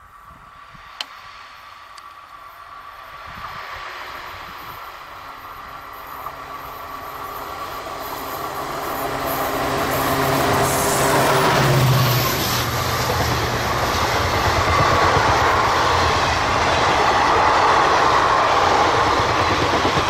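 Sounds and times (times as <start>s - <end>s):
diesel locomotive engine hum: 0.0s - 20.0s.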